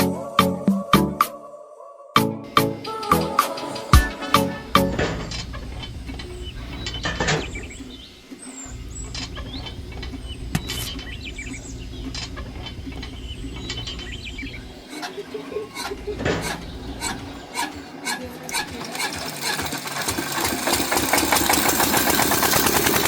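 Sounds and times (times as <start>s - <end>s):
small geared motor humming: 2.5s - 23.0s
rattling gears clicking: 3.6s - 23.0s.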